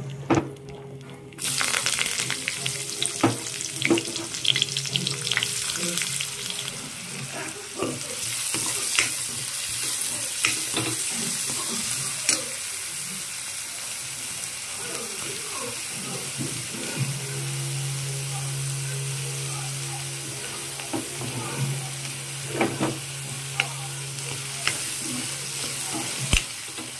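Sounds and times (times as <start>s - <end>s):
onions sizzling in oil: 1.4s - 26.9s.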